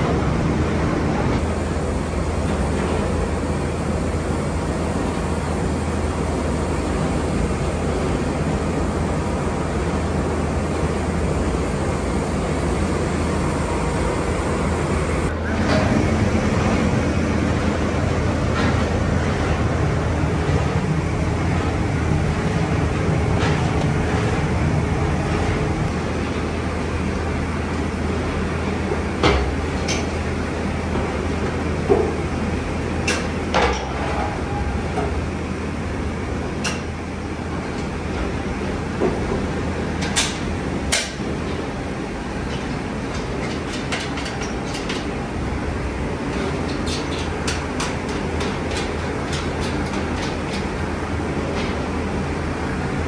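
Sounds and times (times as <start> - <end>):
factory machinery rumbling: 0.0 - 53.0.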